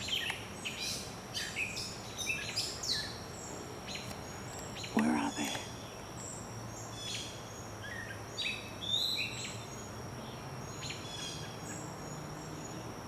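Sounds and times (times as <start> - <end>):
faint low hum: 0.0 - 13.0
songbirds chirping and whistling: 0.0 - 13.0.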